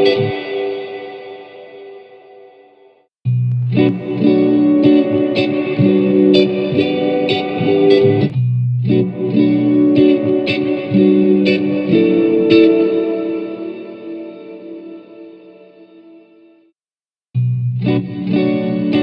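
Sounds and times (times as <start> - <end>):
guitar with reverb effect: 0.0 - 16.7, 17.4 - 19.0.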